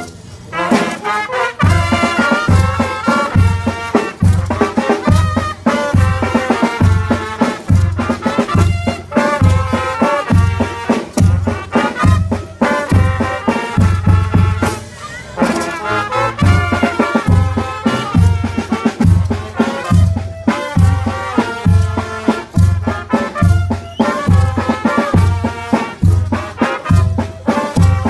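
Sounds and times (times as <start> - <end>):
brass band playing dance tune: 0.0 - 28.0.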